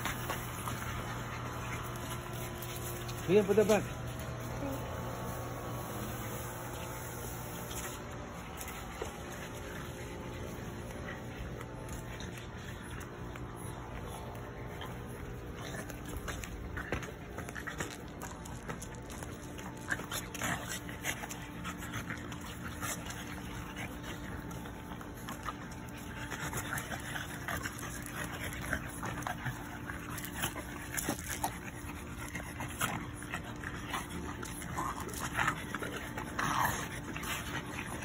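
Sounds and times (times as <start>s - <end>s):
puppies play-wrestling: 0.0s - 38.0s.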